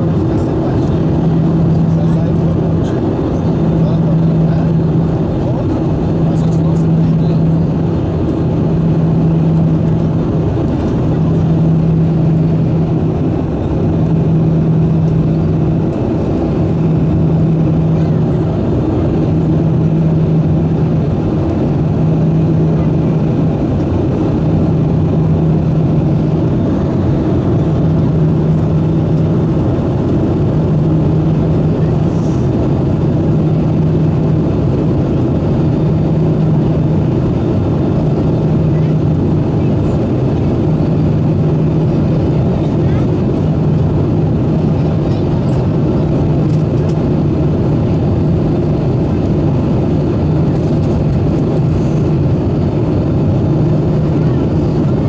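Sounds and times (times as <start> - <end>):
airliner engine and airflow noise: 0.0 - 55.0
pulsing low hum: 0.0 - 55.0.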